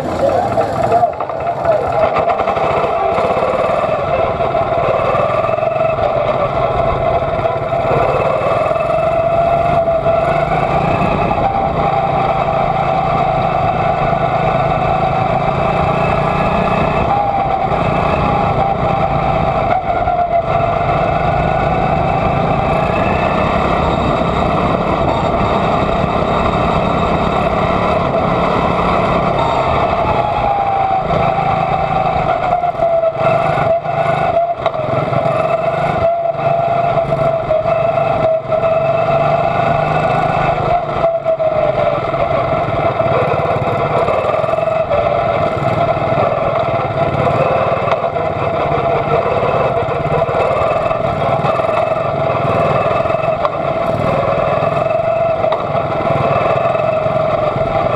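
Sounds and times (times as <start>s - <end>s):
small racing car engine running hard: 0.0s - 57.9s.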